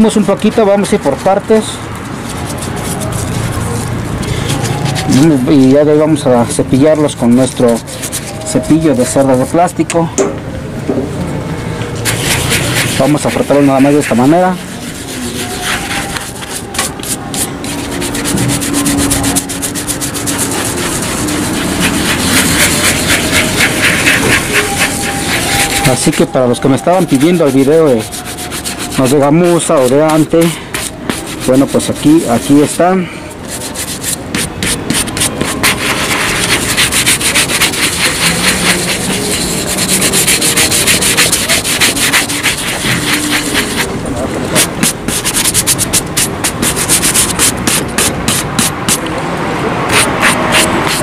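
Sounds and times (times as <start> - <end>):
brush scrubbing suede: 0.0 - 5.7, 7.2 - 9.8, 12.0 - 49.0, 49.9 - 51.0.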